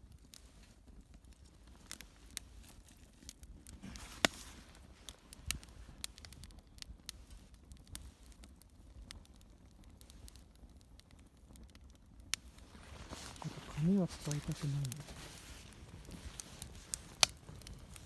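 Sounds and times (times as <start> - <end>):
kindling fire crackling and snapping: 0.0 - 18.0.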